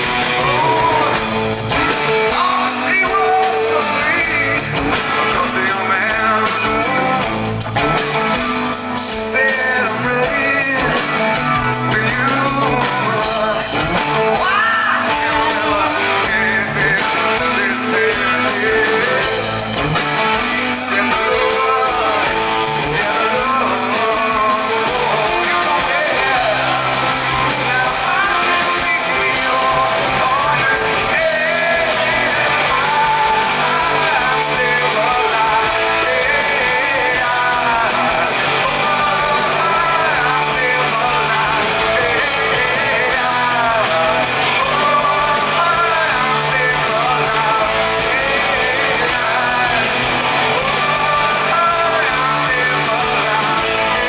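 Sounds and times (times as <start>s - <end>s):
man singing: 0.0s - 7.6s, 8.6s - 54.0s
bass guitar: 0.0s - 54.0s
electric guitars: 0.0s - 54.0s.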